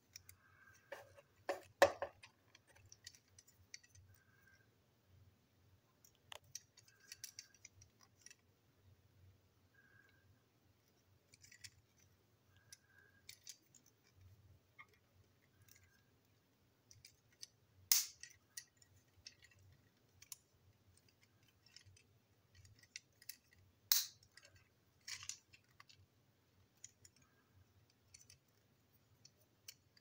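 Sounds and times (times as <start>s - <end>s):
plastic parts clicking and tapping: 0.0s - 4.6s, 6.0s - 8.5s, 11.3s - 16.0s, 16.8s - 30.0s.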